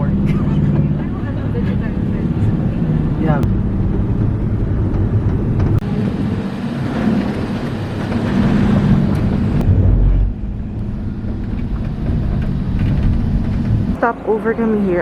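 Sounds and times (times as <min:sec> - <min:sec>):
van rumbling on road: 0:00.0 - 0:15.0.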